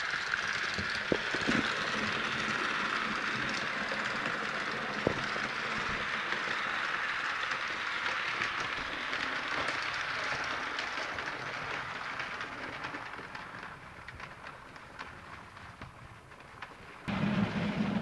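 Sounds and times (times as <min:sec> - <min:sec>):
model train whirring on rails: 0:00.0 - 0:18.0.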